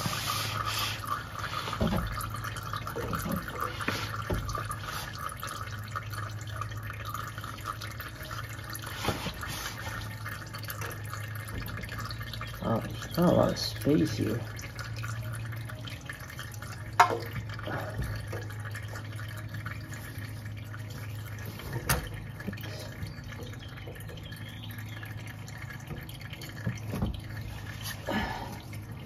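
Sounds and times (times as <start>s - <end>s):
oil trickling into a drain pan: 0.0s - 29.0s.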